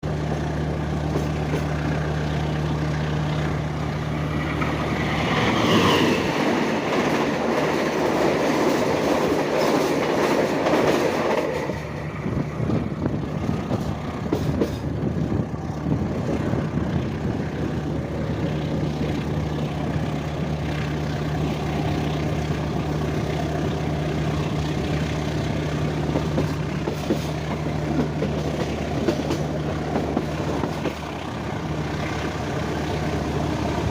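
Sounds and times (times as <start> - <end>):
diesel locomotive engine droning: 0.0 - 33.9.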